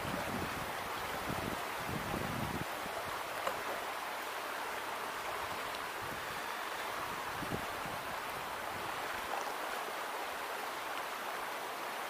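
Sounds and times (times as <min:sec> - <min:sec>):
shallow creek running: 0:00.0 - 0:12.0.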